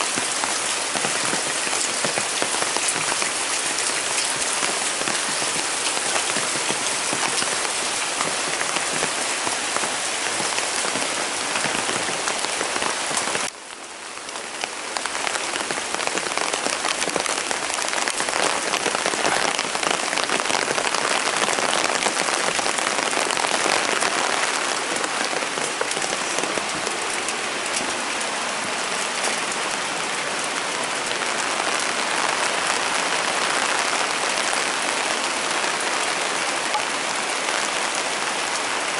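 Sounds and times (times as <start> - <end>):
heavy rain on ground and leaves: 0.0 - 38.9.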